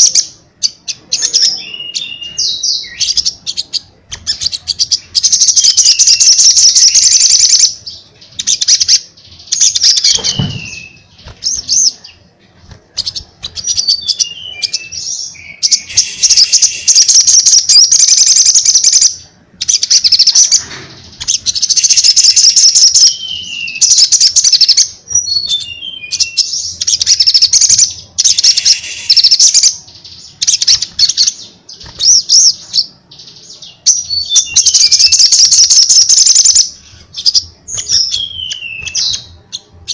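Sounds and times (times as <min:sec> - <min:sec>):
bird twittering trills: 0:00.0 - 0:12.2, 0:12.9 - 0:39.9.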